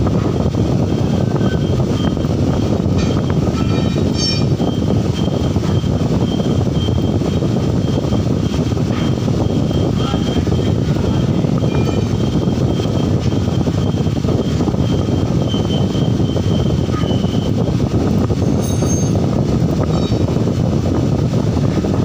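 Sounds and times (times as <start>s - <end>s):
loud mechanical rumble: 0.0s - 22.0s.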